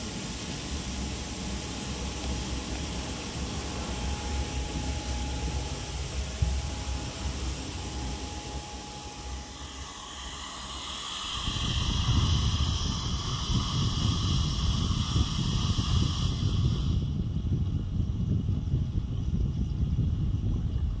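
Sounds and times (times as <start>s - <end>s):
aerator airflow hiss: 0.0s - 19.6s
air blowing out of vent: 0.0s - 21.0s
low rumble: 0.0s - 21.0s.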